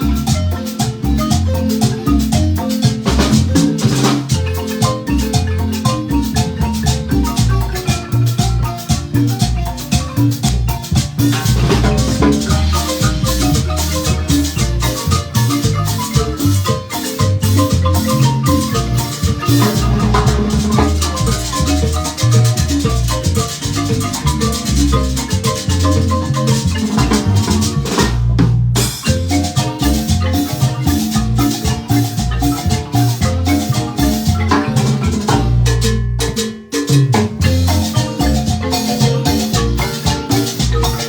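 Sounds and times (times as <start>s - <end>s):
marimba band playing dance music: 0.0s - 41.0s
steady drum beat: 0.0s - 41.0s.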